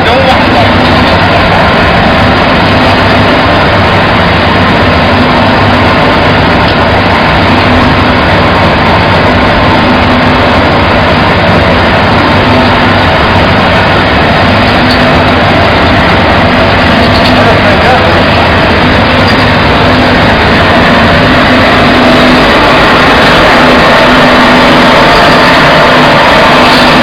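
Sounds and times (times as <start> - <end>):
steady machinery hum: 0.0 - 27.0.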